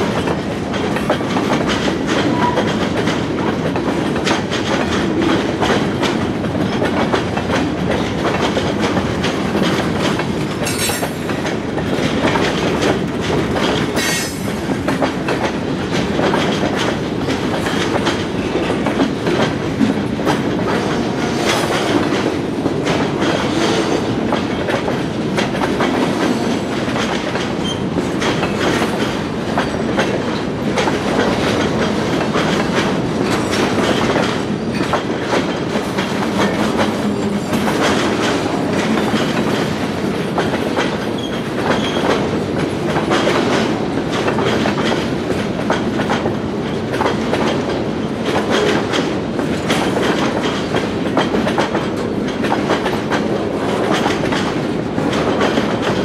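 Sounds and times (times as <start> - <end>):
freight train cars rolling: 0.0 - 56.0
wheels clicking over rail joints: 0.0 - 56.0.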